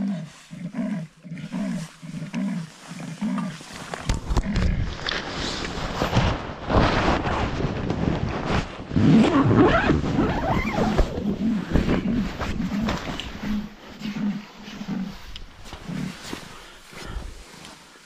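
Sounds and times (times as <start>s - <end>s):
tent fabric rustling: 0.2s - 4.2s, 4.9s - 18.0s.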